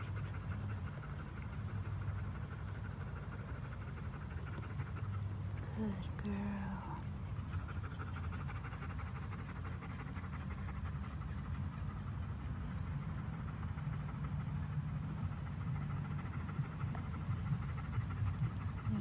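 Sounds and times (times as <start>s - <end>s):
dog panting rapidly: 0.0s - 19.0s
steady low hum: 0.0s - 19.0s.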